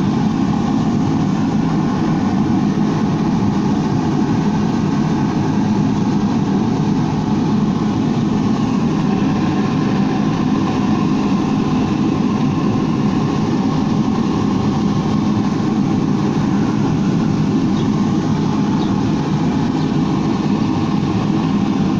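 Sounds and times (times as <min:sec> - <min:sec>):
steady machine noise: 0:00.0 - 0:21.9.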